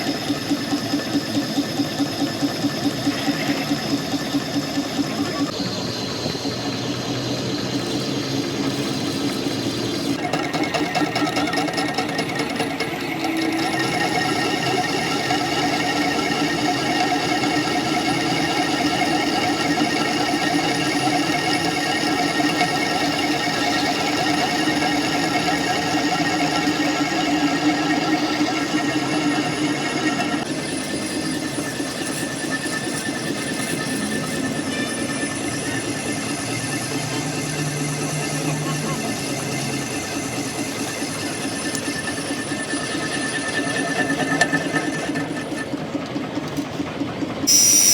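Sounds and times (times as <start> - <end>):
machine rhythmic clatter: 0.0 - 47.9.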